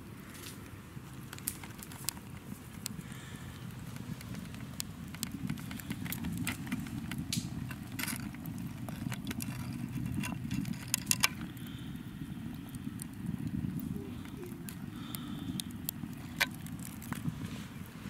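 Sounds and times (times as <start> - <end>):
steady low rumble: 0.0 - 18.0
wood fire crackling and popping: 0.0 - 18.0.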